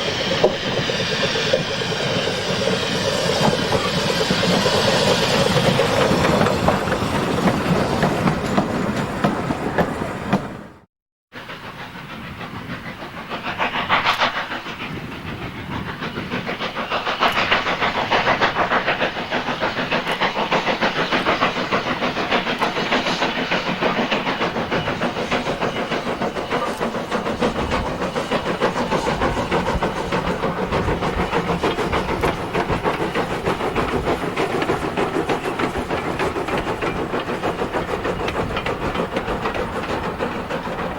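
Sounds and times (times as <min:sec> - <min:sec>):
steam hissing and exhaust: 0:00.0 - 0:10.7, 0:11.4 - 0:40.9
train wheels clattering on rails: 0:00.0 - 0:40.9.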